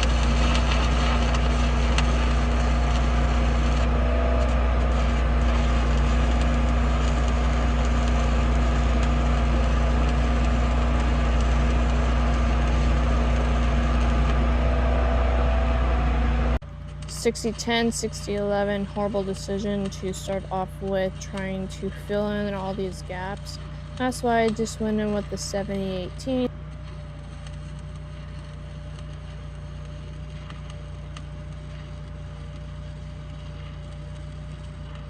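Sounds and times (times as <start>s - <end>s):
welding arc crackling: 0.0s - 15.2s, 16.7s - 35.0s
welding machine hum: 0.0s - 35.0s.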